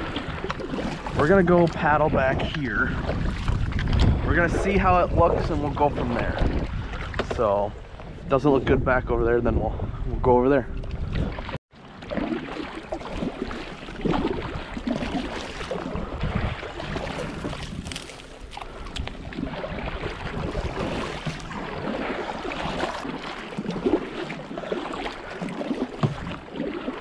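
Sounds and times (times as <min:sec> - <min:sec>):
paddle splashing in water: 0:00.0 - 0:08.2, 0:10.9 - 0:27.0.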